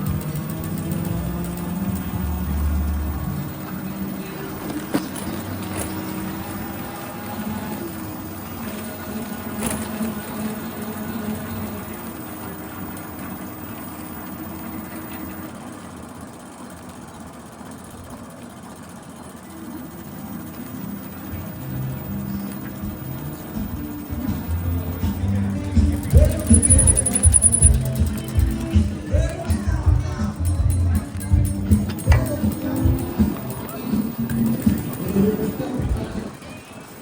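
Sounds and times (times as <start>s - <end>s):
bicycle drivetrain whirring: 0.0s - 37.0s.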